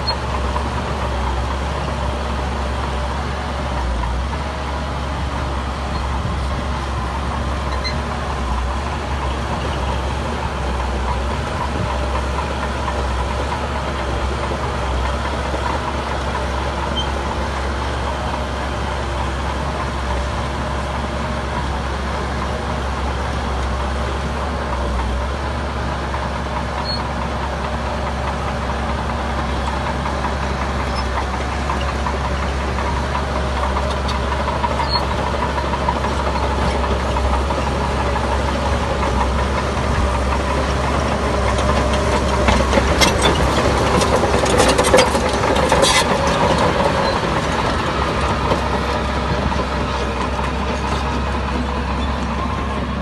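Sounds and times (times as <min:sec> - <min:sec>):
diesel engine of heavy machinery: 0:00.0 - 0:53.0.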